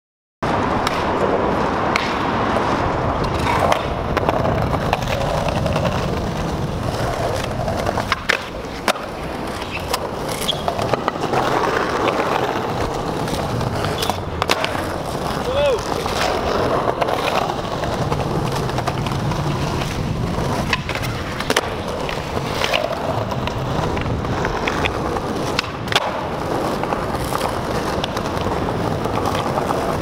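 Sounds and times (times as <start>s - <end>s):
skateboard wheels rumbling: 0.4s - 30.0s.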